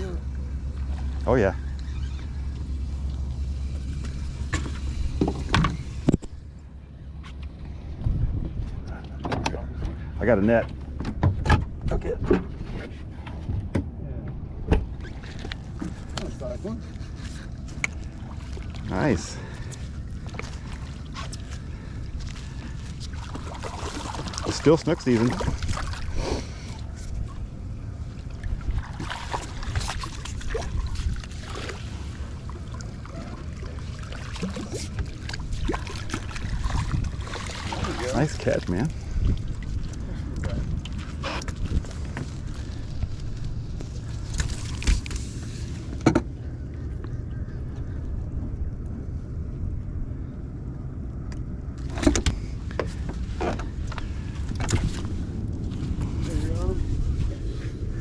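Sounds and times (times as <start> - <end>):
water lapping against boat hull: 0.0 - 49.2, 50.2 - 58.0
steady low rumble: 0.0 - 58.0.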